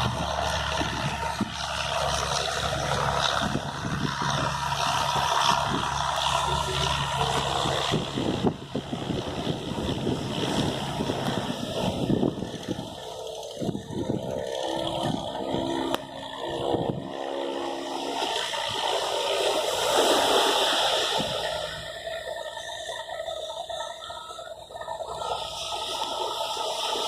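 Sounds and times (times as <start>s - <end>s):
motor hum: 0.0s - 27.0s
surf rushing and washing: 0.0s - 27.0s.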